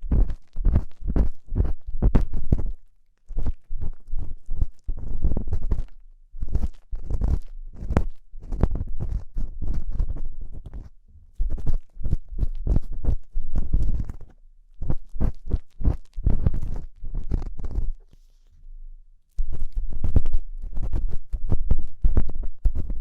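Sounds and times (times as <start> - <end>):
tool scraping silicone ear microphone: 0.0 - 18.7, 19.3 - 23.0.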